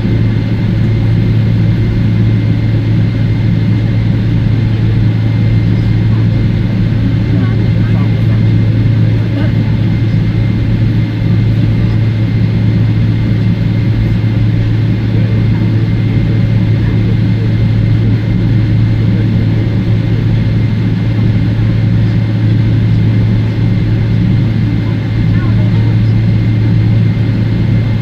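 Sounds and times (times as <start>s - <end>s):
aircraft cabin drone: 0.0s - 28.0s
thin steady engine whine: 0.0s - 28.0s.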